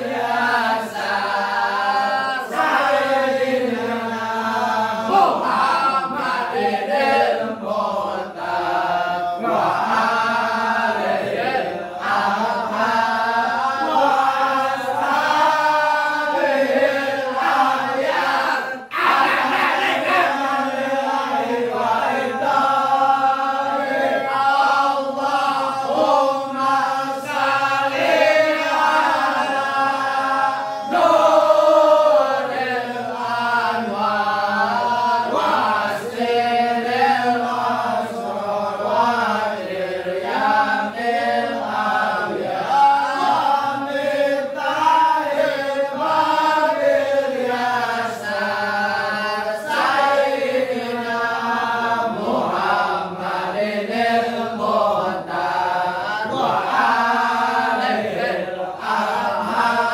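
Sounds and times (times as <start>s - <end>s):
men chanting together: 0.0s - 59.9s.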